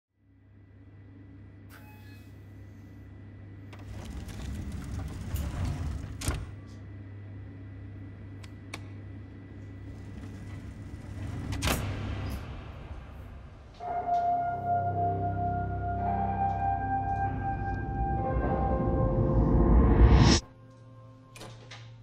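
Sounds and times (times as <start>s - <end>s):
steady low hum: 0.2s - 21.4s.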